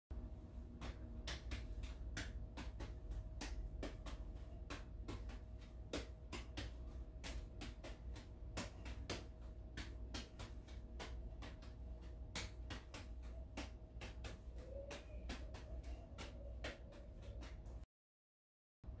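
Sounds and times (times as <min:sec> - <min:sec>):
low steady hum: 0:00.2 - 0:17.9
juggling balls landing in hands: 0:00.7 - 0:17.8.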